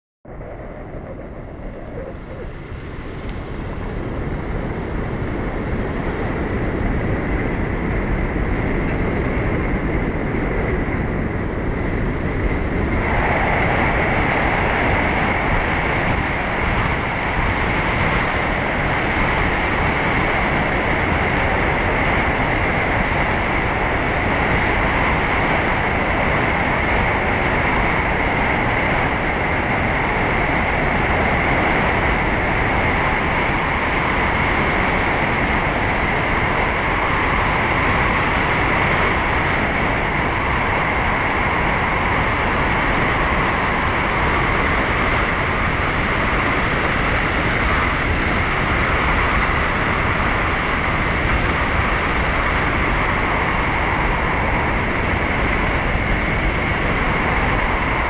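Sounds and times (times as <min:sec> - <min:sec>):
car road and wind noise: 0:00.2 - 0:58.0.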